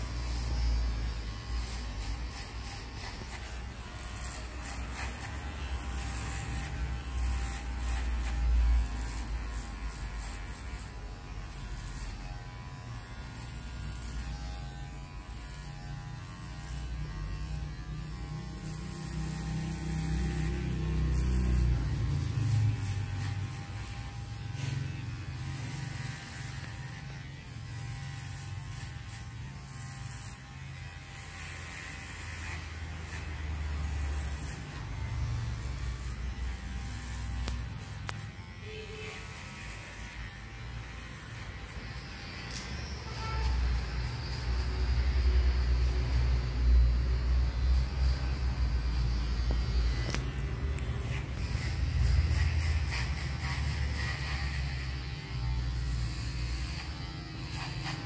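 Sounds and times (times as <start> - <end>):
electric hair clipper buzzing: 0.0 - 58.0.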